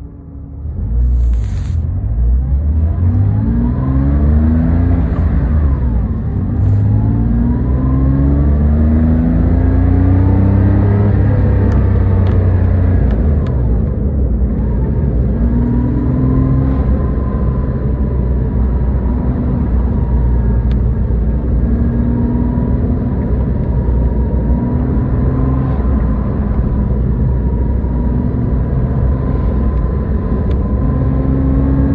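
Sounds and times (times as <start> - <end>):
car engine revving: 0.6 - 31.9.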